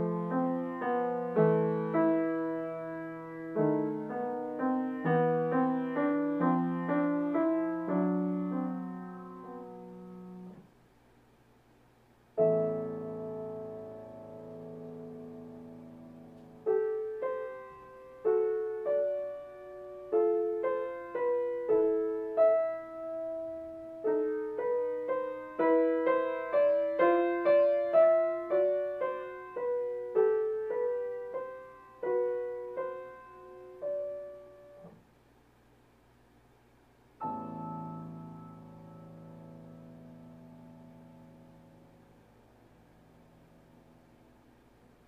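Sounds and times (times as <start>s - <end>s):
grand piano playing: 0.0s - 10.6s, 12.4s - 34.9s, 37.2s - 44.2s.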